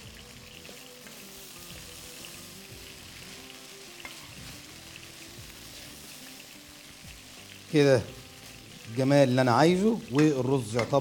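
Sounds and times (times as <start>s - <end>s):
faint background music: 0.0s - 11.0s
rice sizzling in a pot: 0.0s - 11.0s.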